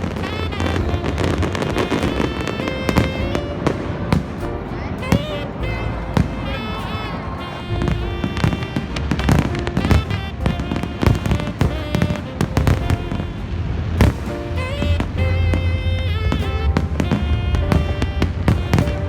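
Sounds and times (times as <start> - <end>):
fireworks bursts and crackles: 0.0 - 19.0
music playing: 0.0 - 19.0.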